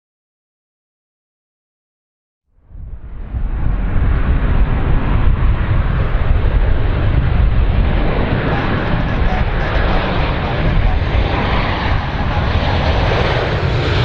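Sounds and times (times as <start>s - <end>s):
aircraft engines rumbling: 2.6s - 14.0s.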